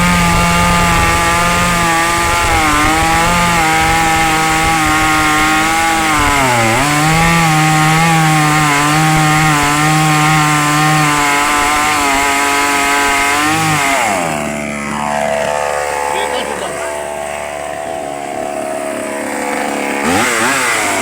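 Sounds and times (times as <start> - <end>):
chainsaw engine running: 0.0 - 21.0.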